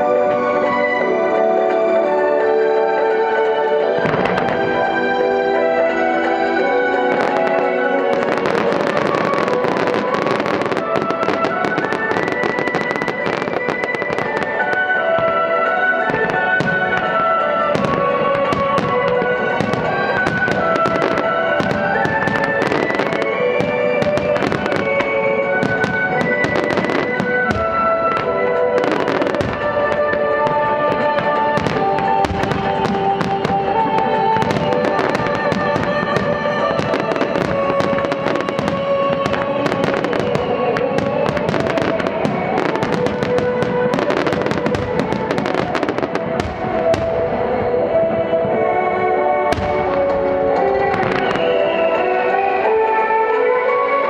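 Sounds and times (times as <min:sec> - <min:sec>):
fireworks bangs and crackles: 0:00.0 - 0:54.0
melodic music with held notes: 0:00.0 - 0:54.0.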